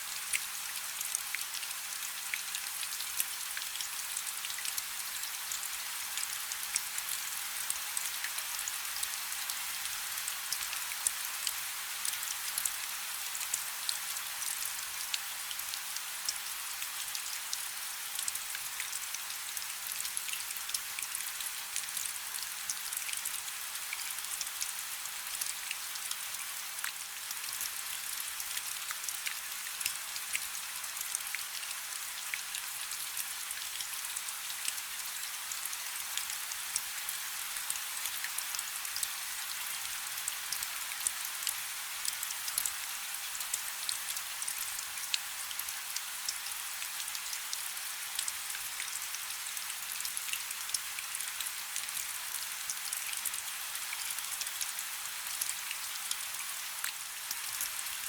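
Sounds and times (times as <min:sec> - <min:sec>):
rain falling on a river: 0:00.0 - 0:58.0.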